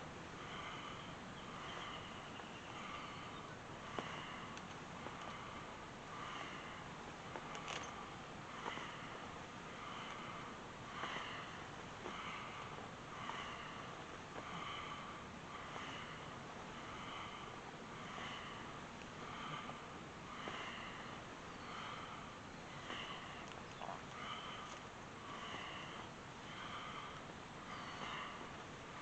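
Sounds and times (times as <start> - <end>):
sharp sniffing breaths: 0.4 - 29.0.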